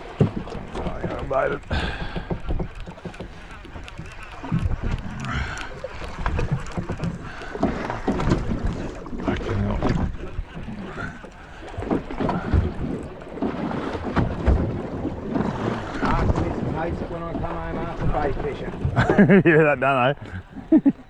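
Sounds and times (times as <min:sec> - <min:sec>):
knocks and bumps on boat: 0:00.0 - 0:05.5, 0:06.2 - 0:19.6
wind buffeting microphone: 0:00.0 - 0:19.2.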